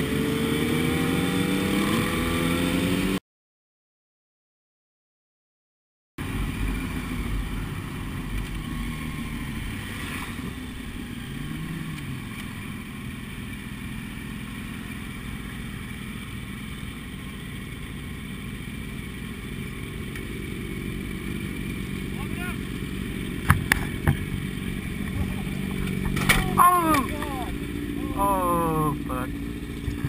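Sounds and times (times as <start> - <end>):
motorcycle engines running: 0.0 - 3.2, 6.2 - 30.0
outdoor noise rushing: 0.0 - 3.2, 6.2 - 30.0.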